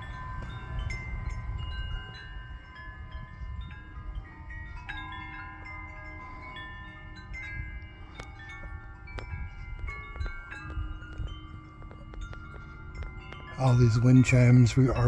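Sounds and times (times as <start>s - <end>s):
low wind rumble: 0.0s - 15.0s
metal wind chimes ringing: 0.0s - 15.0s.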